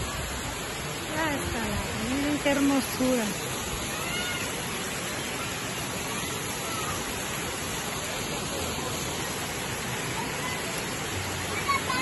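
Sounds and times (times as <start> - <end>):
water rushing down stone cascade: 0.0 - 12.0.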